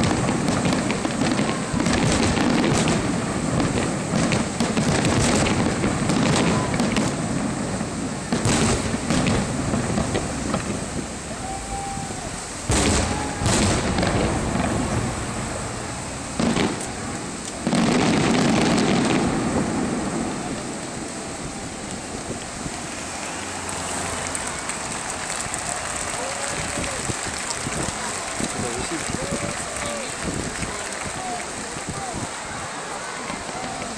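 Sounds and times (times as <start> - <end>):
fireworks booms and bangs: 0.0 - 33.9
fireworks crackling: 0.0 - 33.9.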